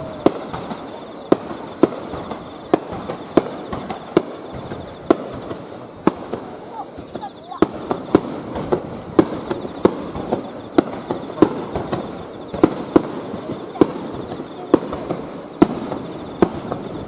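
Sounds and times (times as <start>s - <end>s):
fireworks bursting with sharp bangs: 0.0s - 17.0s
insects chirping: 0.0s - 17.0s.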